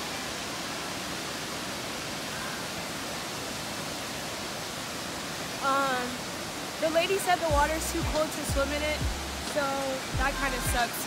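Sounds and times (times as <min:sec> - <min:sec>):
waterfall rushing roar: 0:00.0 - 0:11.0.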